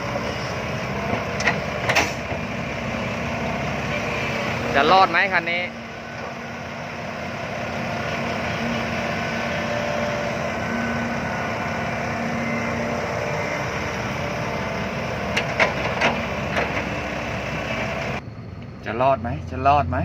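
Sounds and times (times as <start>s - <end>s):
dump truck diesel engine: 0.0s - 20.0s.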